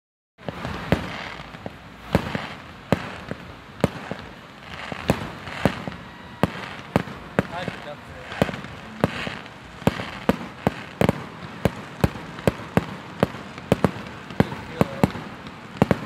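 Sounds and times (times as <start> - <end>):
fireworks bangs and pops: 0.4 - 16.0.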